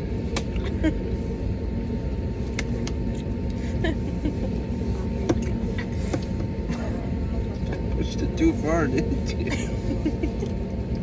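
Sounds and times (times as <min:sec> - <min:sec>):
engine and air system rumble: 0:00.0 - 0:11.0.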